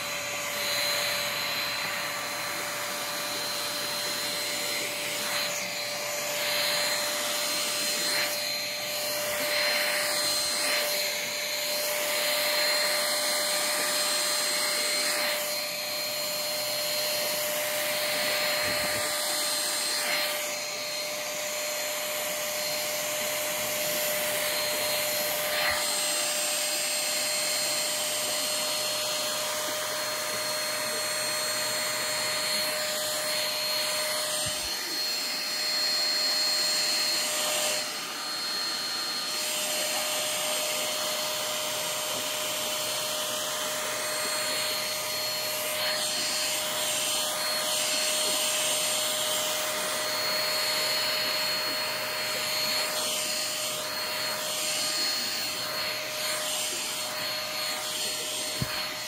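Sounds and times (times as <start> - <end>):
stick vacuum motor whining: 0.0 - 59.0.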